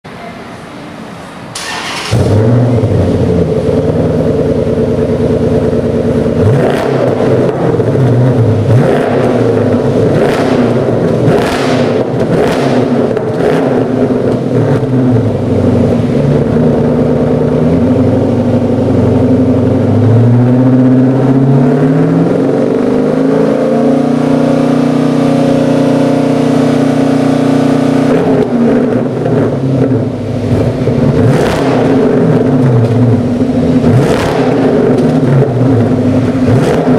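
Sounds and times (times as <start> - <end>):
car engine revving through exhaust: 2.0 - 36.9.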